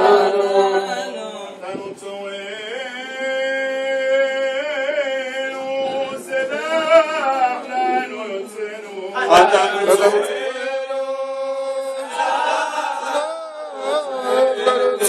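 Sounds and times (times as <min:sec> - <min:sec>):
men chanting prayers: 0:00.0 - 0:15.0.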